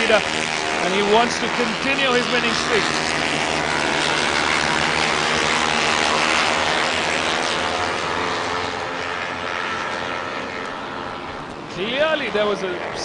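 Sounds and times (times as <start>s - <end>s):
racing motorcycle engines screaming: 0.0s - 13.0s.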